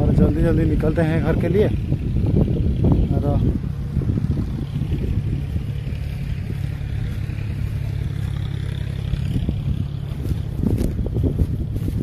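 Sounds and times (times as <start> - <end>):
low rumbling: 0.0 - 12.0
steady low drone: 0.0 - 12.0.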